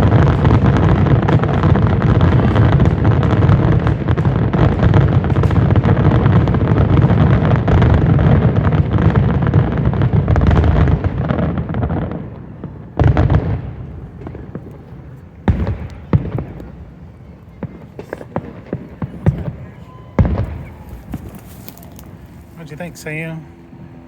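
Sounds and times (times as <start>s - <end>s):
loud firework boom: 0.0s - 22.9s.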